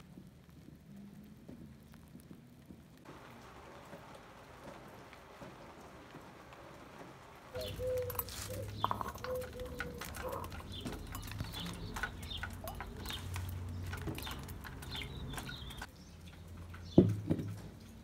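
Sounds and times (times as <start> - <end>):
rain drops pattering: 0.0 - 18.0
birds chirping: 3.1 - 18.0.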